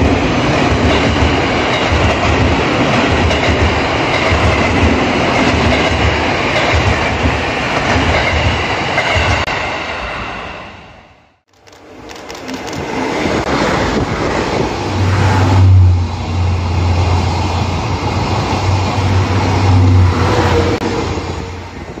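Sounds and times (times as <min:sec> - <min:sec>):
train coaches rumbling past: 0:00.0 - 0:22.0.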